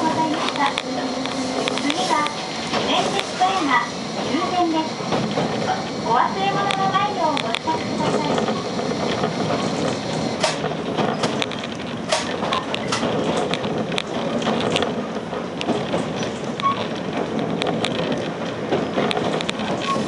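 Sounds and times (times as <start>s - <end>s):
train wheels rumbling on rail: 0.0s - 20.0s
wheels clacking over rail joints: 0.0s - 20.0s.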